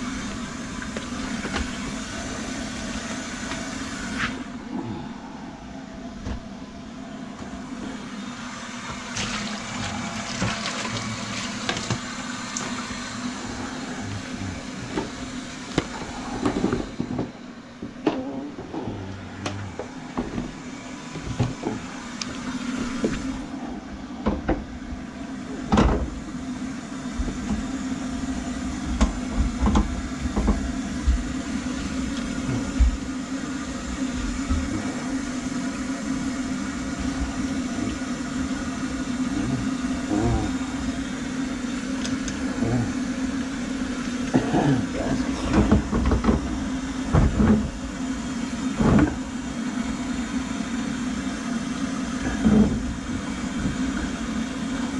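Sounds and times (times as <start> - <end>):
drain cleaning machine humming: 0.0 - 54.9.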